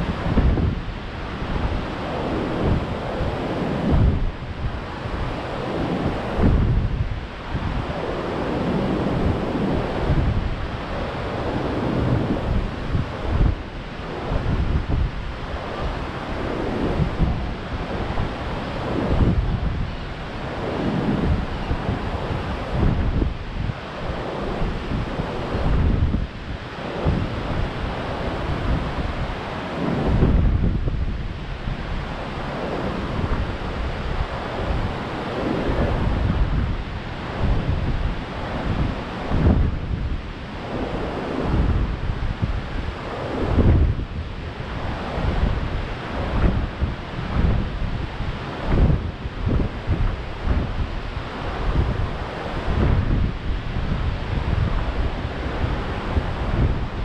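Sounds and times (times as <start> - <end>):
rough surf breaking: 0.0 - 57.0
wind buffeting microphone: 0.0 - 57.0.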